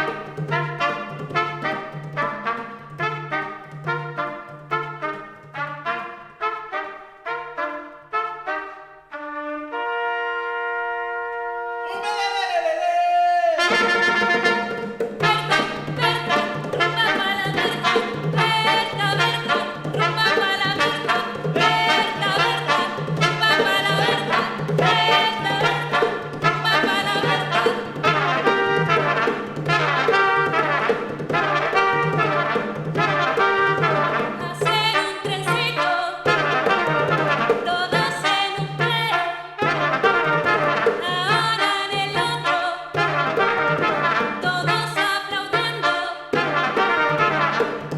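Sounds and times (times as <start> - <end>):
brass ensemble playing: 0.0 - 12.5, 13.4 - 47.9.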